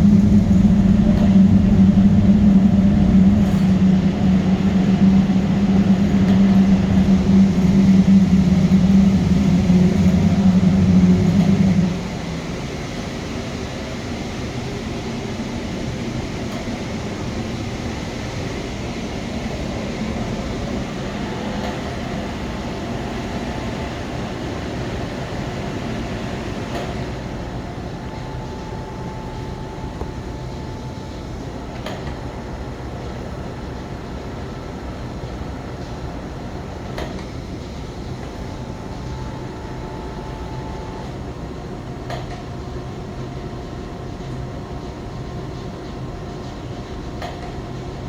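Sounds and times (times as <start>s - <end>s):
machinery hum and rush: 0.0s - 48.0s.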